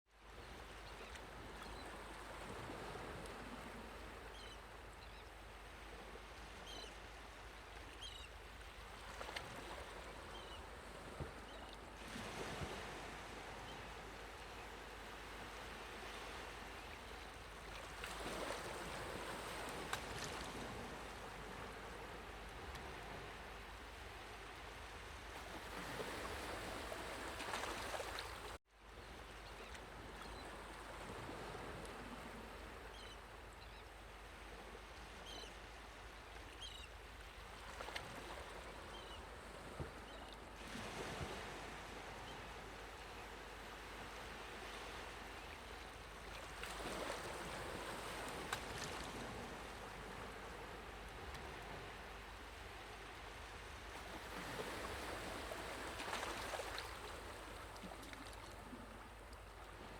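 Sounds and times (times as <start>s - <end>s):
sea water and surf rushing: 1.3s - 6.8s, 8.0s - 28.6s, 36.6s - 59.9s.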